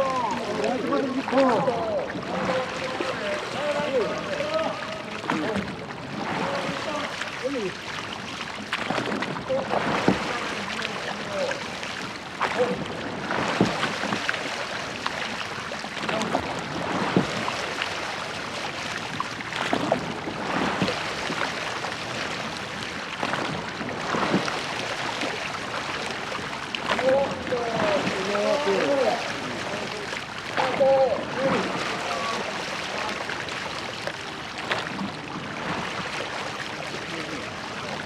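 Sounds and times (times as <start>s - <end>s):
water rushing: 0.0s - 38.0s.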